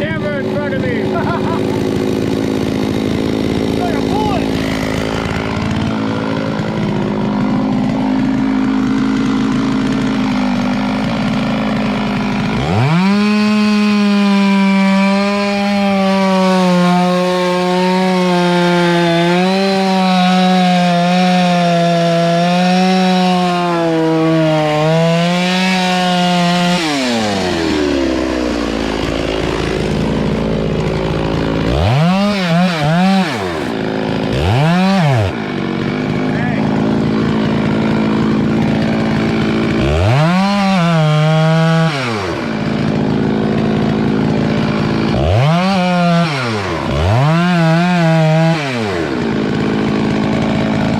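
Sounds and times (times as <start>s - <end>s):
chainsaw revving and cutting: 0.0s - 50.9s.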